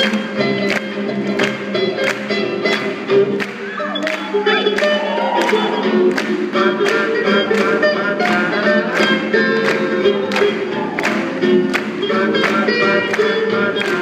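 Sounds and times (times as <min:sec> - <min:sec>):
swing band playing: 0:00.0 - 0:14.0.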